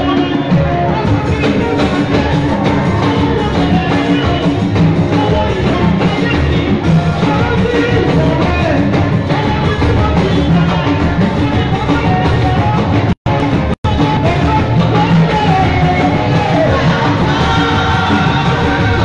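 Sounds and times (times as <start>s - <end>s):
church band praise music: 0.0s - 19.0s
keyboard: 0.0s - 19.0s
singing: 0.0s - 19.0s.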